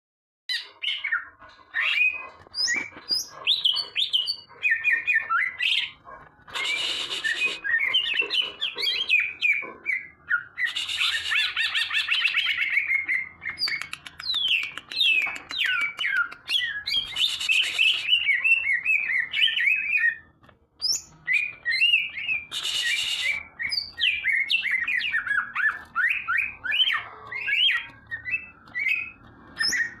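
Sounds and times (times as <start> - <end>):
bird singing chirps and whistles: 0.5 - 30.0.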